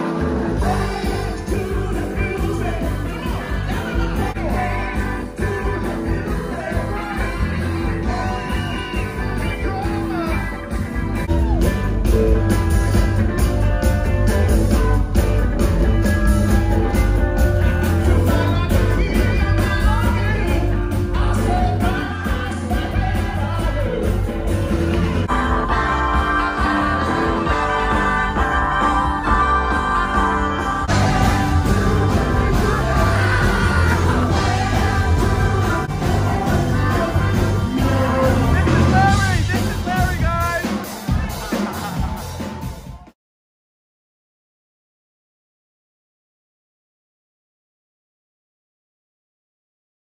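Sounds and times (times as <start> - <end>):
live band with singer: 0.0 - 43.2.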